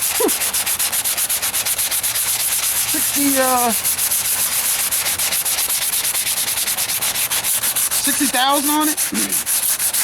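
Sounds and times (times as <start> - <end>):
hand sanding with sandpaper: 0.0 - 10.0.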